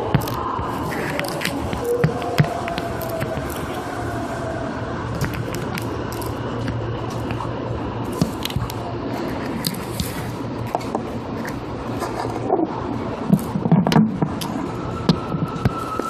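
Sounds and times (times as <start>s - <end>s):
electric train rumble and hum: 0.0s - 16.0s.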